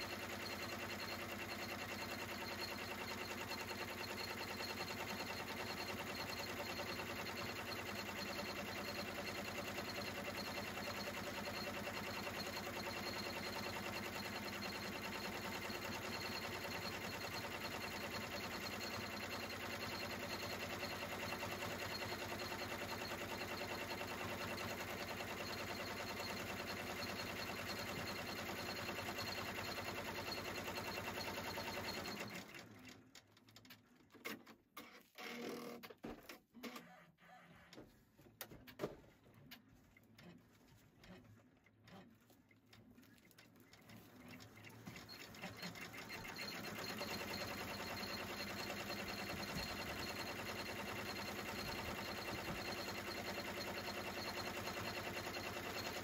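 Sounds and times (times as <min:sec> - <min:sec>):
embroidery machine stitching: 0:00.0 - 0:37.8, 0:40.2 - 0:56.0.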